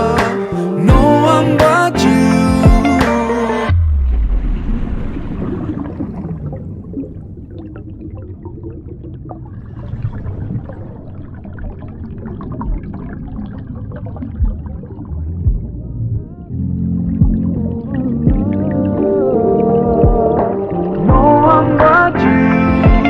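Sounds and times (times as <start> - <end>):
water gurgling and trickling: 2.8 - 23.0.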